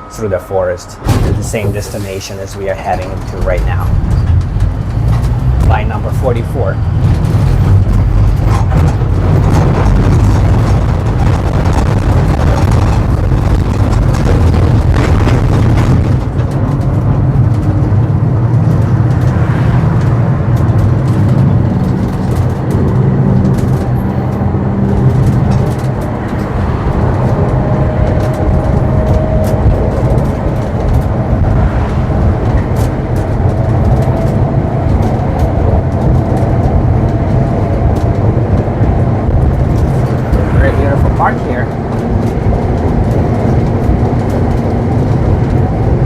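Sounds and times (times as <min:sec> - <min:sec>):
tram wheels rumbling on rails: 0:00.0 - 0:46.0
clicks and rattles: 0:02.6 - 0:46.0.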